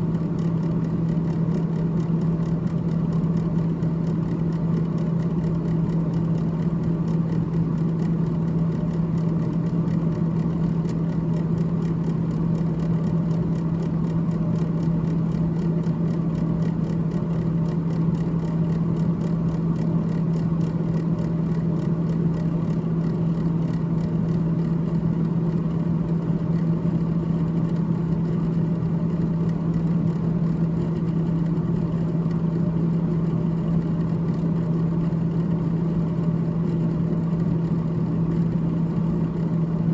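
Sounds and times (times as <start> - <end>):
freezer fan humming: 0.0 - 39.9.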